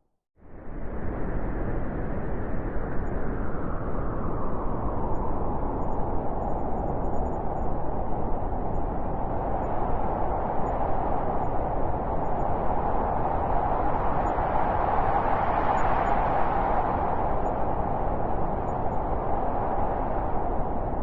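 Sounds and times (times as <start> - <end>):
blizzard wind blowing hard: 0.4 - 21.0.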